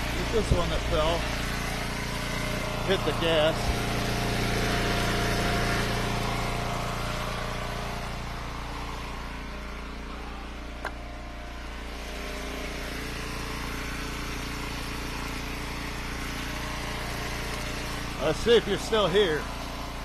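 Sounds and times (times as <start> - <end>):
wood splitter gas engine running: 0.0 - 20.0.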